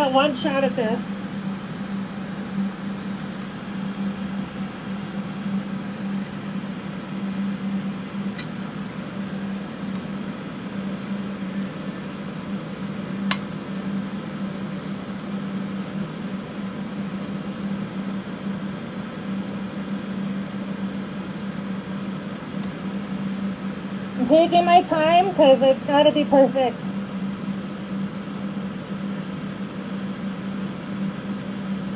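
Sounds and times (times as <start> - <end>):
fans whooshing hum: 0.0 - 31.9.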